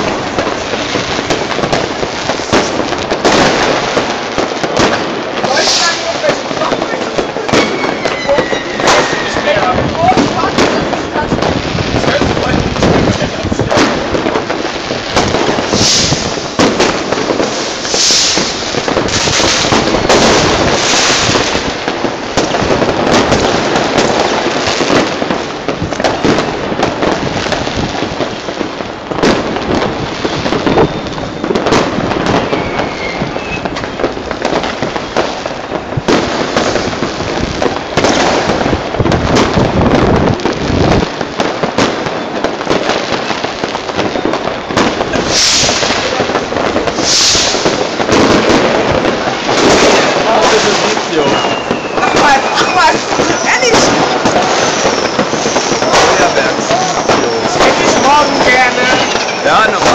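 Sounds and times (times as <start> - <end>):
firework hisses: 0.0 - 38.7, 39.3 - 59.9
crackle of firecrackers: 0.0 - 59.9
sharp firework bangs: 0.0 - 59.9.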